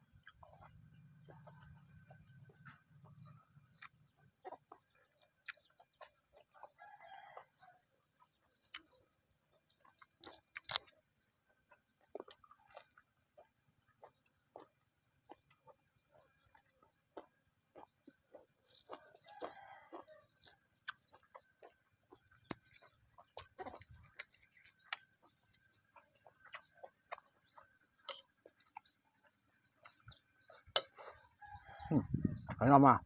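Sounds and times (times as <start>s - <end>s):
person chewing and eating: 0.0s - 31.6s.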